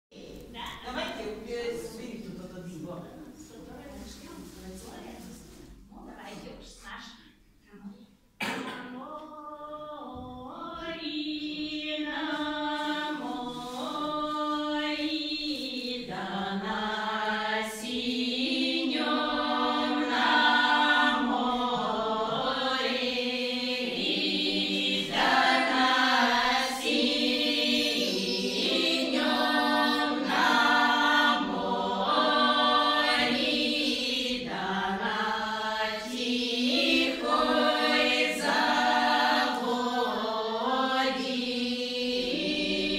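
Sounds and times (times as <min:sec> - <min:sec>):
women's choir singing a cappella: 0:08.4 - 0:42.9.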